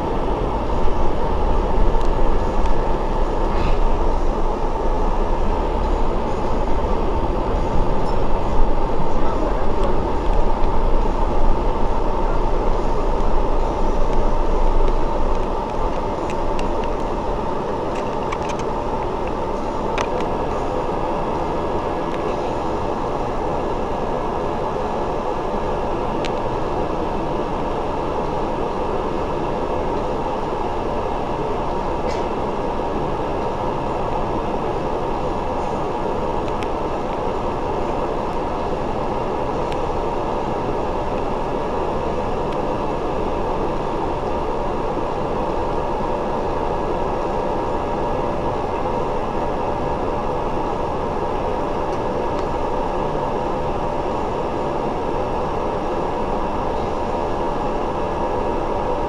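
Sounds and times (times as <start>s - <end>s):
bus engine hum: 0.0s - 59.0s.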